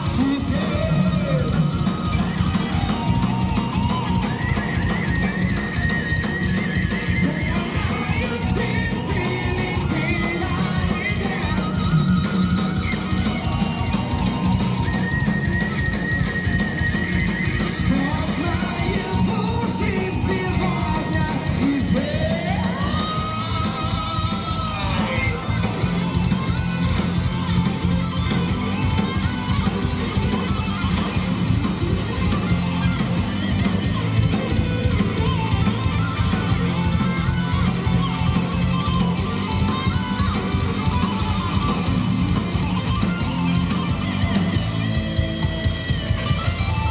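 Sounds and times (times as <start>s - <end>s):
heavy metal band playing live: 0.0s - 46.9s.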